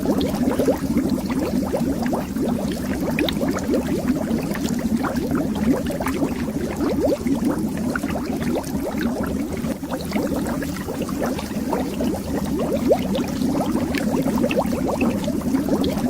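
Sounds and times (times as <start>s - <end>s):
air bubbles popping underwater: 0.0s - 16.0s.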